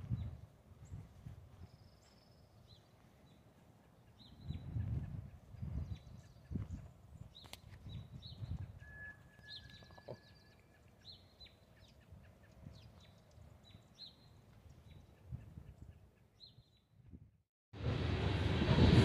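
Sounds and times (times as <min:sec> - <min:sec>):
faint outdoor ambience: 0:00.0 - 0:17.0
small bird chirping: 0:01.6 - 0:16.9.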